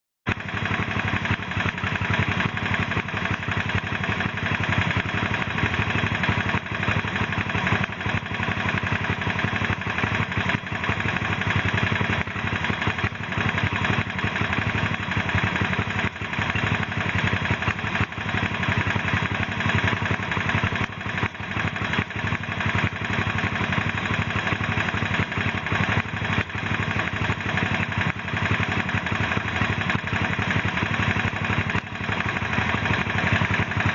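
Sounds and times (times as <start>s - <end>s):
motorcycle engine idling with clatter: 0.3s - 33.9s.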